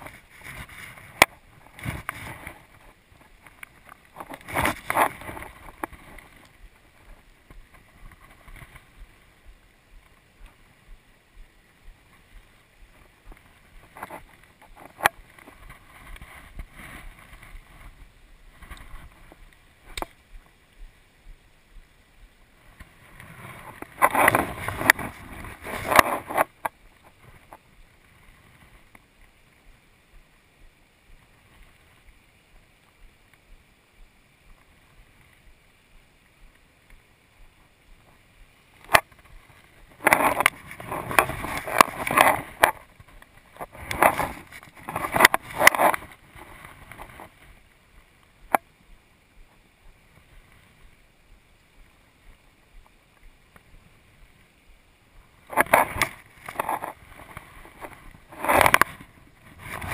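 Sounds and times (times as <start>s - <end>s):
rustling: 0.0s - 20.9s, 22.6s - 29.7s, 36.9s - 51.1s, 51.8s - 59.9s.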